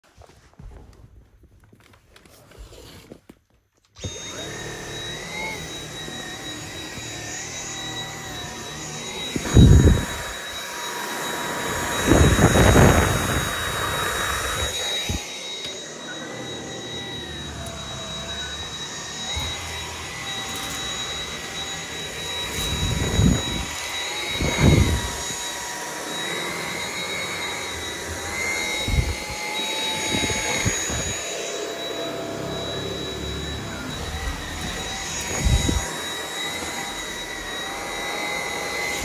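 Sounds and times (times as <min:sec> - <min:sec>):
vacuum motor whine: 0:04.0 - 0:39.0.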